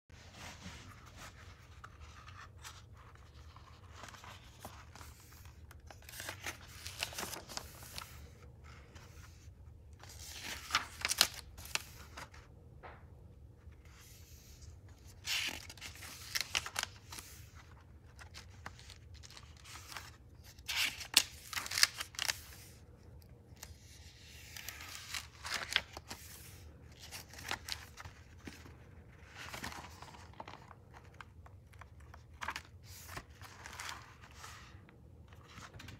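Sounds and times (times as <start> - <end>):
book pages rustling: 0.1 - 12.5, 13.6 - 35.9.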